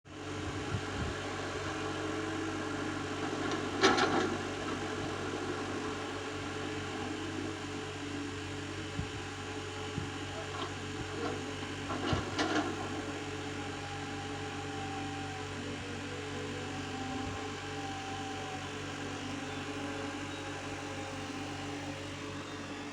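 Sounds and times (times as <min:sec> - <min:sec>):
excavator diesel engine running: 0:00.1 - 0:22.9.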